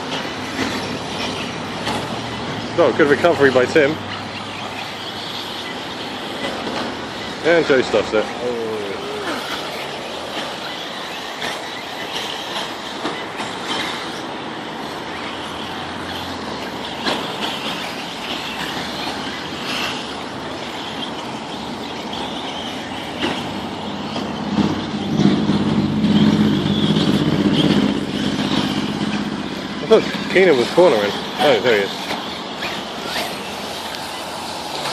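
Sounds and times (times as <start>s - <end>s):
high electric motor whine: 0.0s - 34.9s.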